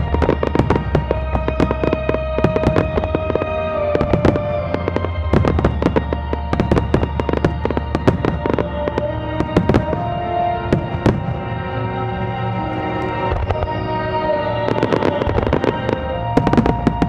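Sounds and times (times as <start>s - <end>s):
music with long held notes: 0.0s - 17.0s.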